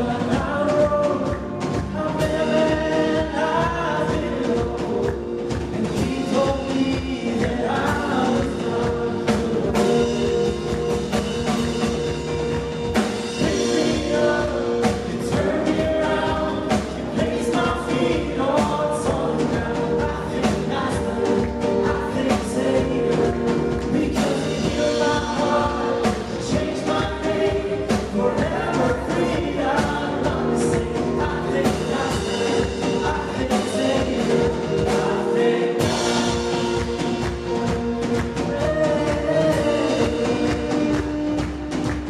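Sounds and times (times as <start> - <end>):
band playing worship song: 0.0 - 42.0
voices singing together: 0.0 - 42.0.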